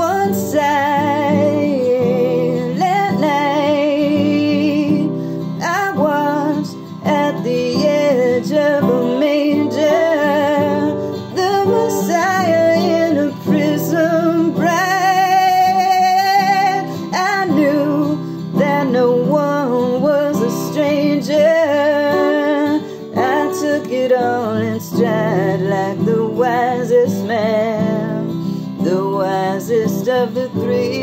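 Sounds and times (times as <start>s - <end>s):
acoustic guitar: 0.0s - 31.0s
woman singing with vibrato: 0.0s - 31.0s.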